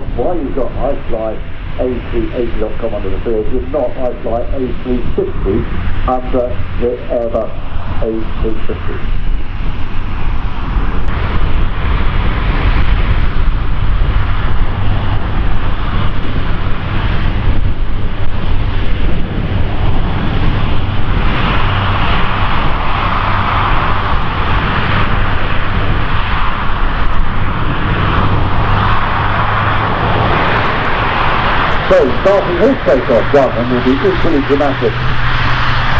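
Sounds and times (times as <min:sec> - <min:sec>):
aircraft engines roaring: 0:00.0 - 0:35.9
low hum: 0:00.0 - 0:35.9.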